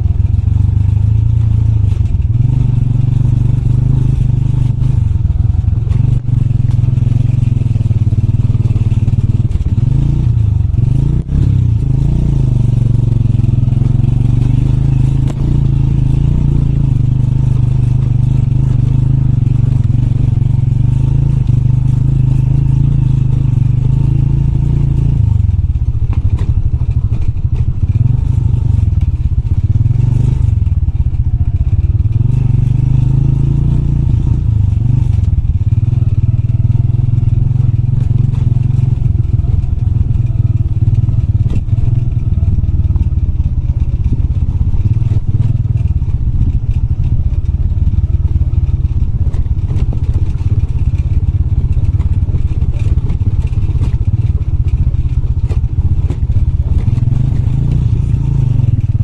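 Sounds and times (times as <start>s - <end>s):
motorbike engine revving: 0.0s - 43.3s, 47.8s - 59.0s
bike clattering over rough track: 0.2s - 59.0s.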